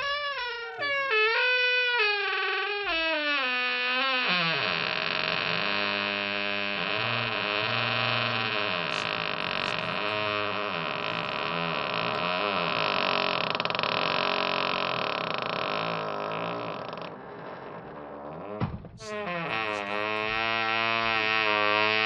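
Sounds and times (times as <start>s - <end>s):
wooden door creaking: 0.0s - 22.0s.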